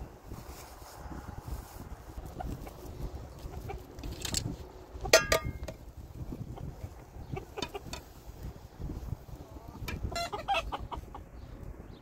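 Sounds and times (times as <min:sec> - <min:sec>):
chickens clucking: 0:01.5 - 0:11.7.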